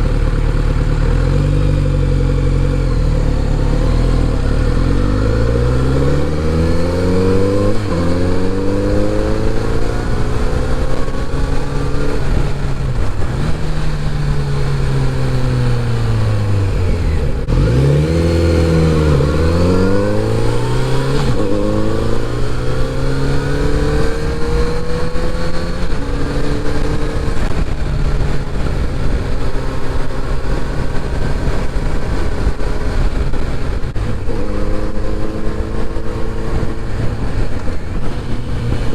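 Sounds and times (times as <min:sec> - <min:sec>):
motorcycle engine accelerating: 0:00.0 - 0:38.9
wind noise: 0:01.8 - 0:38.9.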